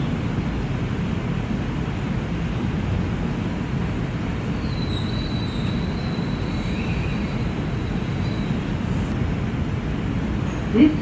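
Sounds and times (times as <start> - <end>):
thin high whine: 0.0 - 9.3
subway train wheels rumbling: 0.0 - 11.0.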